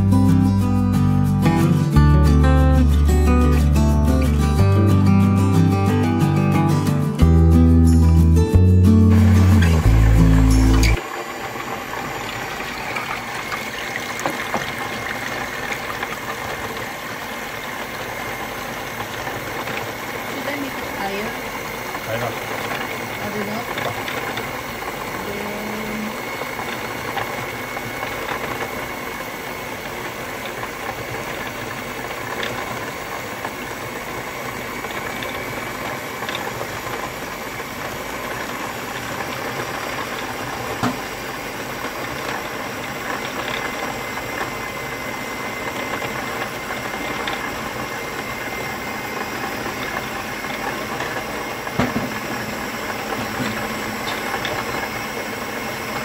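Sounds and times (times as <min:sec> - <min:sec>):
stand mixer whisking egg whites: 0:09.1 - 0:56.0.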